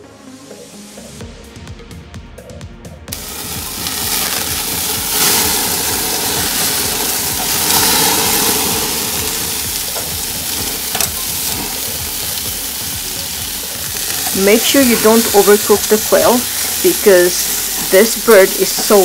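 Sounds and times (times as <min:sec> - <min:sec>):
meat sizzling on a gas grill: 0:03.1 - 0:19.0.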